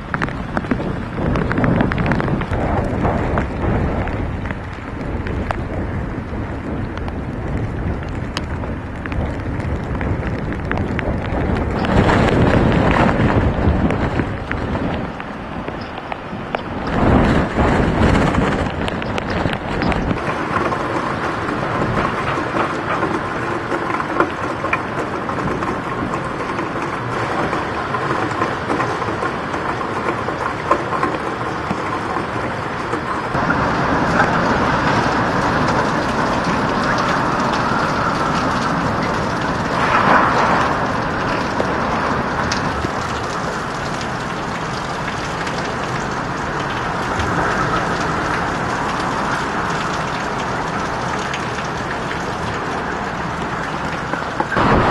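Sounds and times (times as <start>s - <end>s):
heavy rain on pavement: 0.0s - 54.9s
strong wind: 0.0s - 54.9s.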